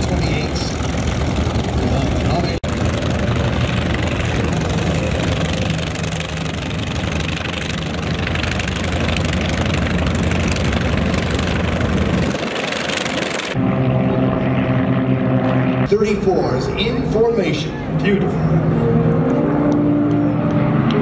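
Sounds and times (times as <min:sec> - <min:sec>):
radial aircraft engines idling: 0:00.0 - 0:21.0
rough low engine drone: 0:00.0 - 0:21.0.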